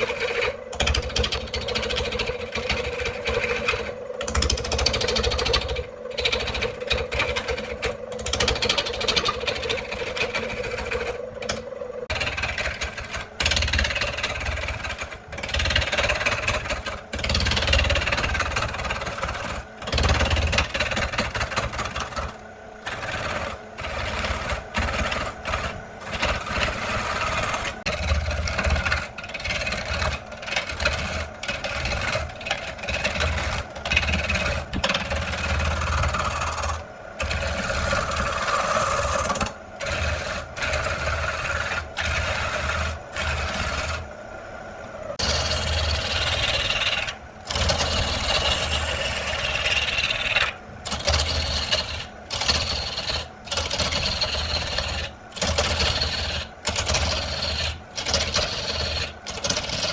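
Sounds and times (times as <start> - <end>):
rough machining noise: 0.0 - 59.9.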